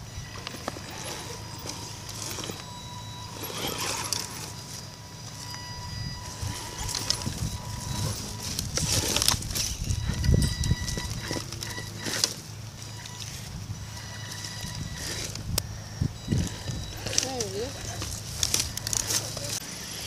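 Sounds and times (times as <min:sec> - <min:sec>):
electric drive whining: 0:00.0 - 0:20.0
sticks and leaves crackling: 0:00.0 - 0:20.0.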